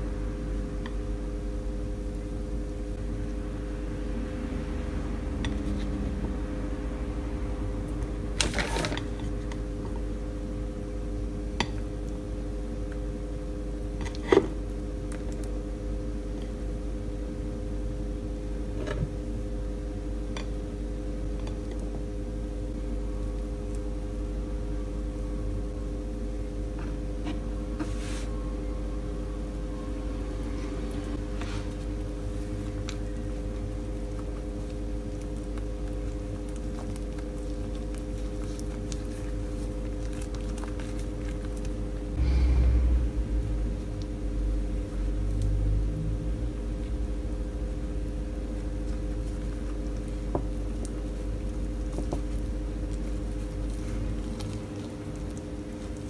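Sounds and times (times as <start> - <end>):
kitchen appliance humming: 0.0 - 56.0.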